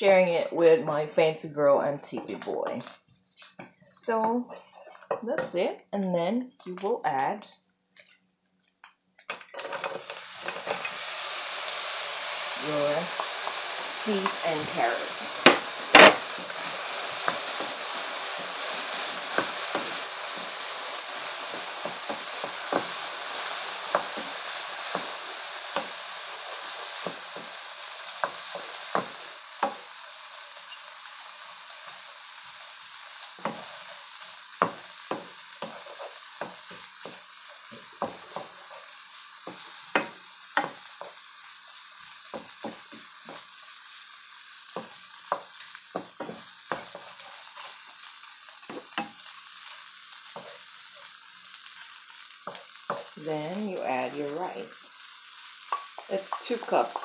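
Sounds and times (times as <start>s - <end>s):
food sizzling in oil: 9.3s - 57.0s.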